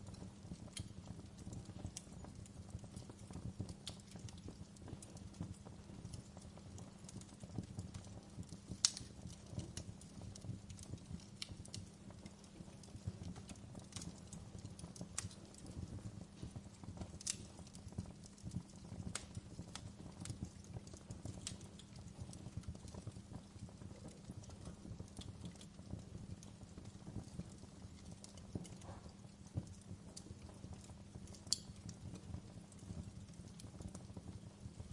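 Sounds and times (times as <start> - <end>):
fire crackling and popping: 0.0 - 34.9
fire rumbling: 0.0 - 34.9.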